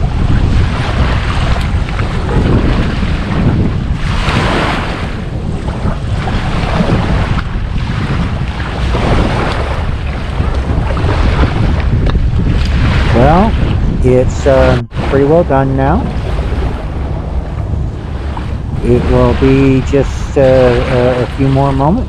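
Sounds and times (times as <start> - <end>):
small waves washing onto beach: 0.0 - 22.0
wind buffeting microphone: 0.0 - 22.0.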